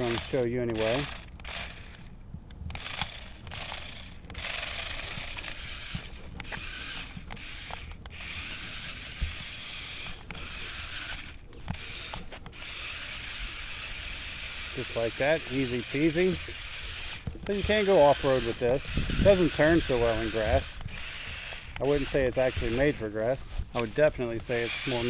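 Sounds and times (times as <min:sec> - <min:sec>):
toy car motors whirring: 0:00.0 - 0:25.0.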